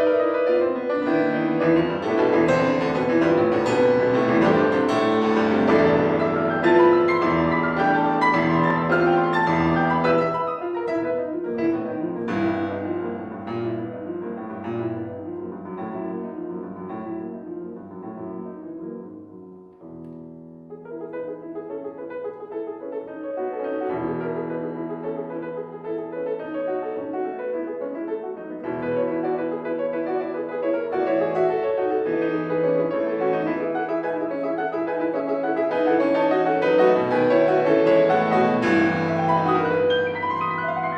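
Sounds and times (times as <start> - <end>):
solo piano classical music: 0.0 - 40.9.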